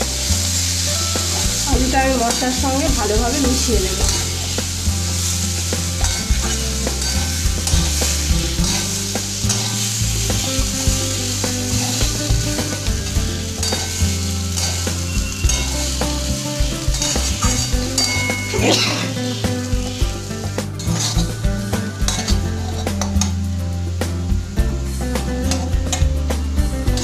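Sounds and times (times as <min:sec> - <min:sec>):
potatoes sizzling in a pan: 0:00.0 - 0:27.0
wooden spatula scraping a pan: 0:00.7 - 0:23.3.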